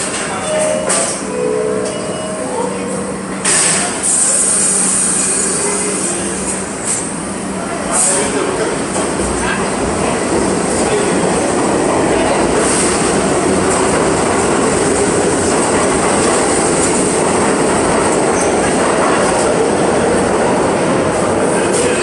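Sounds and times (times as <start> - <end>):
subway train on rails: 0.0 - 22.0.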